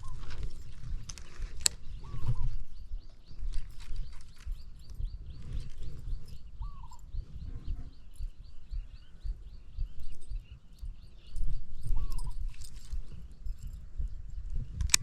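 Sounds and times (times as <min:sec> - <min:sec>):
bird chirping rapidly: 0:00.0 - 0:14.8
dull low thumps and rumble: 0:00.0 - 0:15.0.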